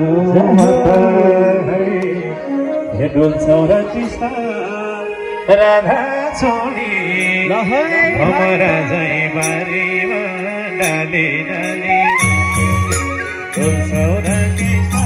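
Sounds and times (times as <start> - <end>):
electronic keyboard chords: 0.0 - 15.0
man singing into a microphone: 0.0 - 15.0.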